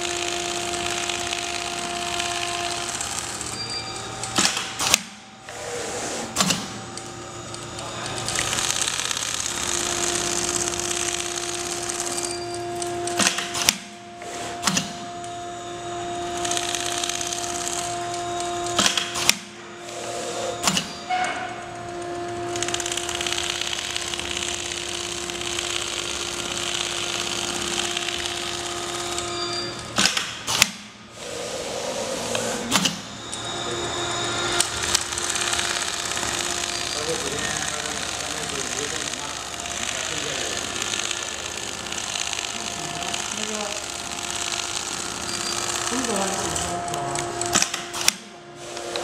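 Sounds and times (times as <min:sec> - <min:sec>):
sharp machine clicks: 0:00.0 - 0:15.4, 0:16.4 - 0:29.2, 0:34.5 - 0:49.0
sewing machine running hum: 0:00.0 - 0:49.0.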